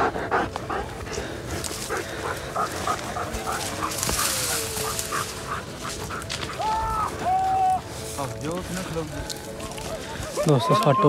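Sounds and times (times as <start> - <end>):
dogs barking and yipping: 0.0 - 8.4, 9.2 - 11.0
rustle of brush: 1.5 - 10.8.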